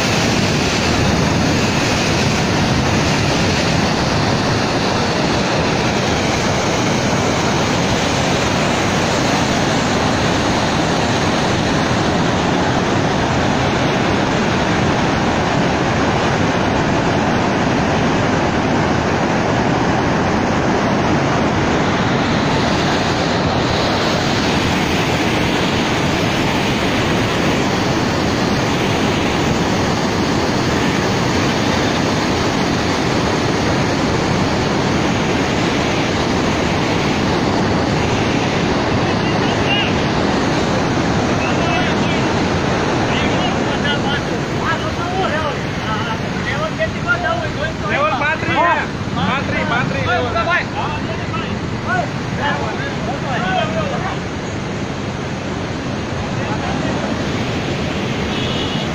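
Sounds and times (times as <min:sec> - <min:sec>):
water rushing through spillway: 0:00.0 - 0:58.9.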